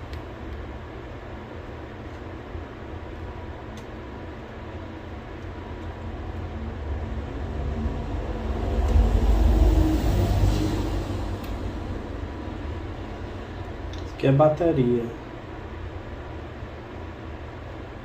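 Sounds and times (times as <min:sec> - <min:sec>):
low rumbling noise: 0:00.0 - 0:18.0.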